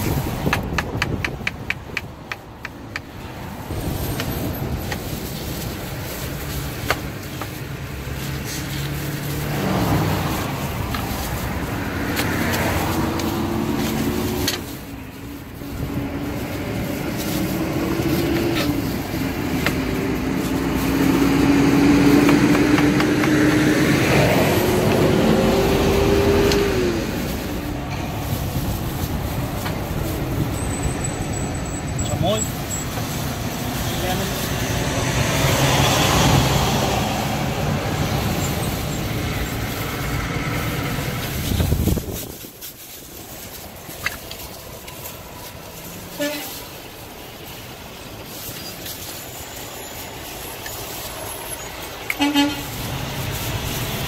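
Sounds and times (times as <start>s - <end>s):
traffic rumble: 0.0s - 54.0s
vehicle engines passing: 0.0s - 54.0s.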